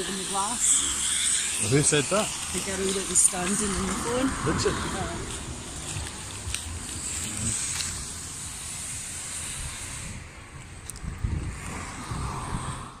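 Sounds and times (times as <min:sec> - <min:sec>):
car passing: 0:00.0 - 0:13.0
wind buffeting microphone: 0:02.6 - 0:13.0.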